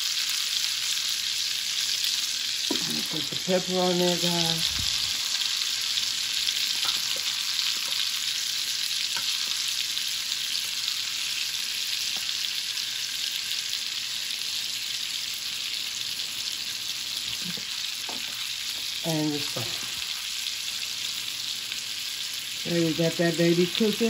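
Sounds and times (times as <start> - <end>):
steak sizzling in a skillet: 0.0 - 24.0.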